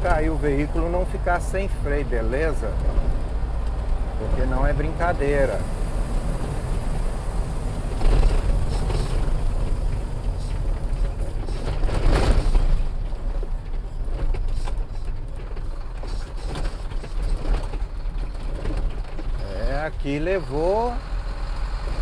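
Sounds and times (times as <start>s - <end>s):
sharp rattles and knocks: 0.0s - 20.4s
truck engine and road hum: 0.0s - 22.0s.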